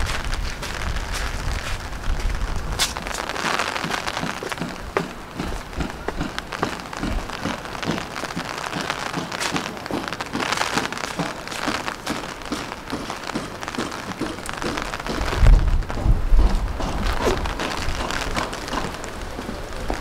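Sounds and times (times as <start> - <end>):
footsteps on wet ground: 0.0 - 20.0
rain pattering: 0.0 - 20.0.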